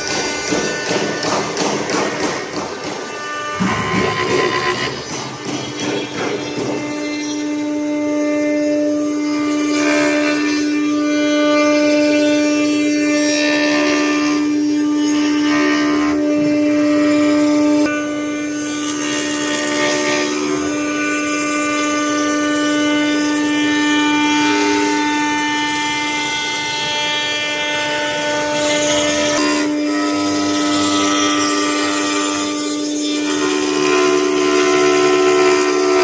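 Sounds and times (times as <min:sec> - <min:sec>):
router spindle whine: 0:00.0 - 0:36.0.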